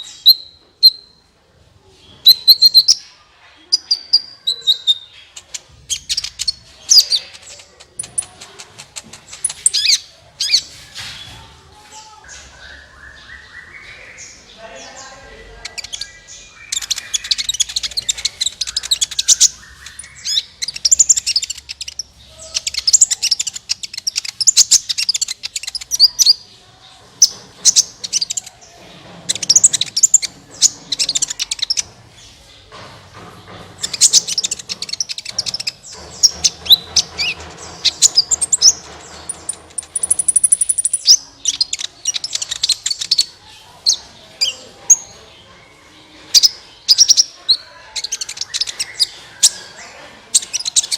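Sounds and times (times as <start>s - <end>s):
bird chirping and trilling: 0.0s - 1.3s, 2.0s - 10.7s, 12.2s - 28.6s, 33.8s - 45.2s, 46.1s - 50.9s.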